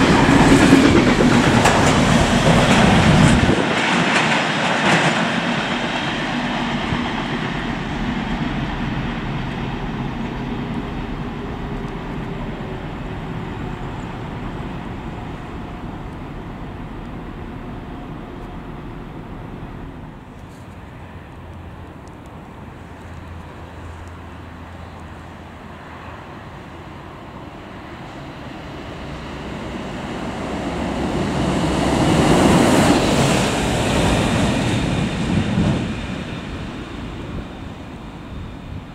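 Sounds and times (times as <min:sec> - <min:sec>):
freight train rumbling: 0:00.0 - 0:38.9
locomotive passing at speed: 0:00.0 - 0:38.9.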